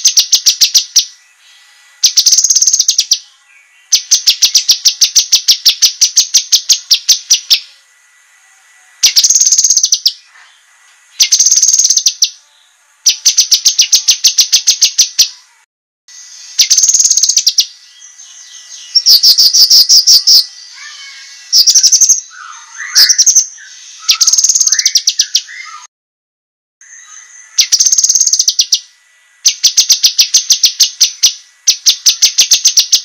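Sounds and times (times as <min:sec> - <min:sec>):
bird singing rapid trills: 0:00.0 - 0:08.2, 0:08.9 - 0:15.5, 0:16.1 - 0:25.9, 0:26.8 - 0:33.0.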